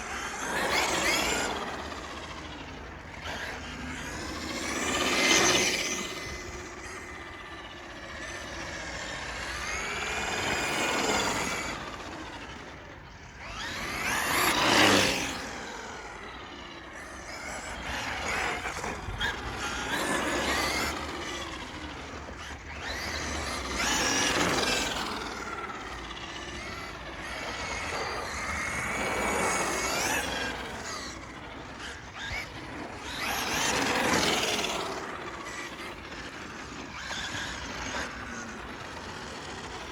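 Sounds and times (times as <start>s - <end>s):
electric rc truck drivetrain whining: 0.0s - 39.9s.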